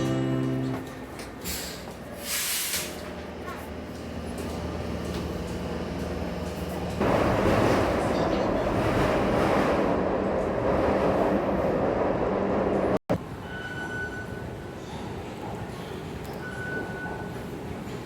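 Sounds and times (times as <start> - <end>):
metro train rushing: 0.0 - 18.0.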